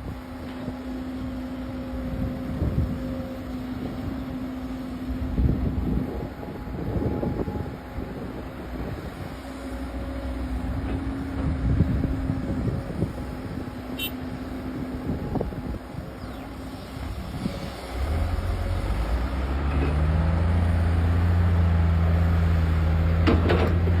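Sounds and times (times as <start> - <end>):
excavator engine drone: 0.0 - 24.0.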